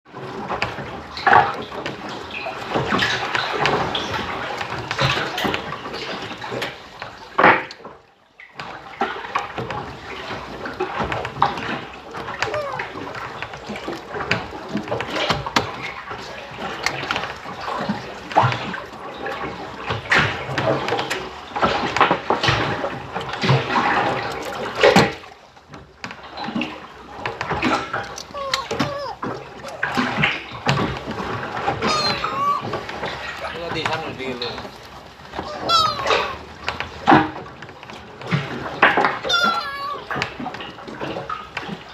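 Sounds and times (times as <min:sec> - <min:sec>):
sea water sloshing and splashing: 0:00.1 - 0:41.9.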